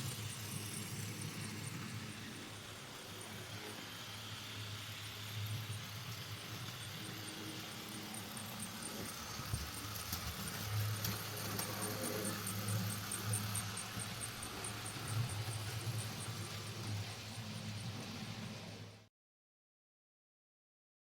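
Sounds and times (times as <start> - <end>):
model train motor humming: 0.0 - 19.0.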